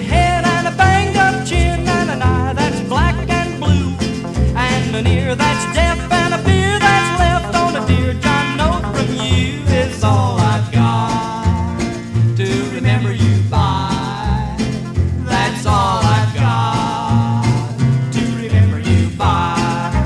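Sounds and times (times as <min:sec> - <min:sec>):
rockabilly record playing: 0:00.0 - 0:20.0.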